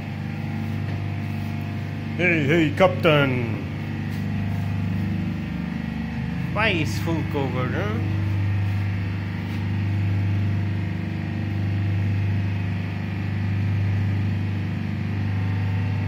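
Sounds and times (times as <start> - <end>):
engine room machinery humming: 0.0 - 16.0.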